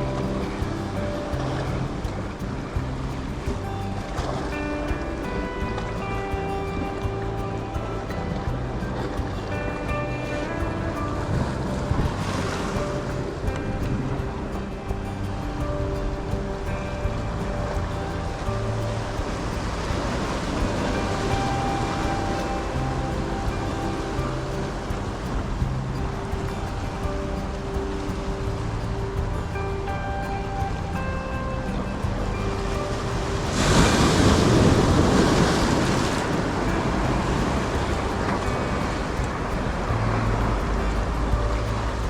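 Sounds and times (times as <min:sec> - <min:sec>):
background music with held notes: 0:00.0 - 0:42.0
sea surf: 0:00.0 - 0:42.0
wind buffeting microphone: 0:00.0 - 0:42.0.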